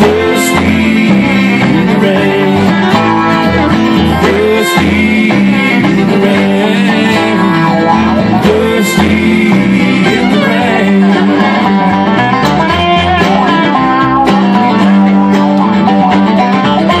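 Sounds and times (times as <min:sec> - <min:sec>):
bluegrass band playing: 0:00.0 - 0:17.0
upright bass pulse: 0:00.0 - 0:17.0.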